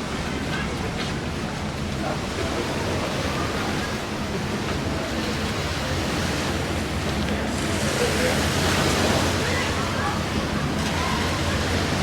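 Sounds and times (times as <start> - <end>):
surf washing: 0.0 - 12.0
wind: 0.0 - 12.0.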